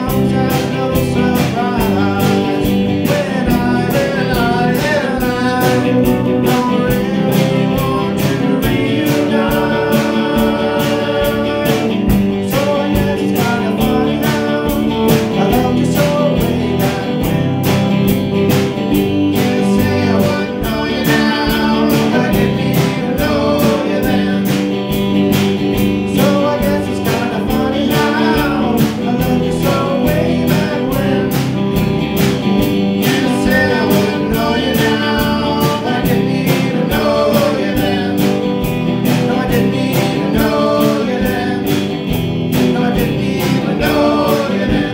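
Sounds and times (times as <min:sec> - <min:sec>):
man singing: 0:00.0 - 0:18.0, 0:18.9 - 0:44.9
bass guitar: 0:00.0 - 0:44.9
drum kit beat: 0:00.0 - 0:44.9
electric guitars: 0:00.0 - 0:44.9.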